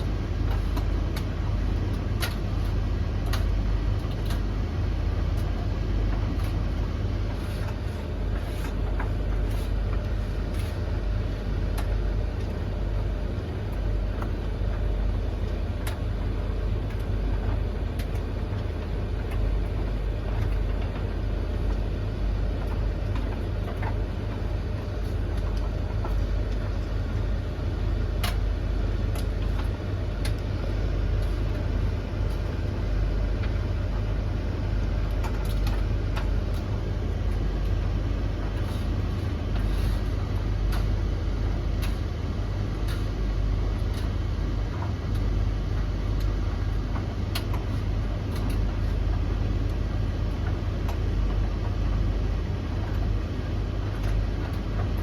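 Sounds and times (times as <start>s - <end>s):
tumble dryers humming: 0.0s - 55.0s.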